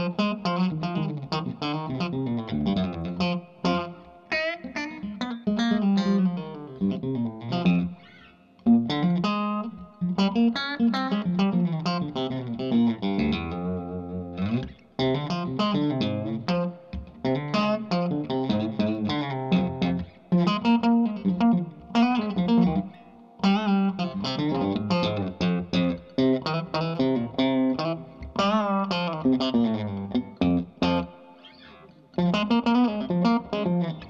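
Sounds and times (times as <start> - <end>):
electric guitar lead lines: 0.0 - 34.0.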